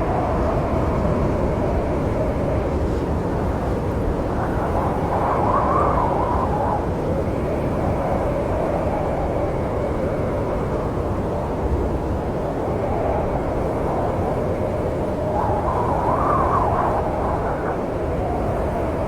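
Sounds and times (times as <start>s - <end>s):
snowstorm wind howling: 0.0s - 19.0s.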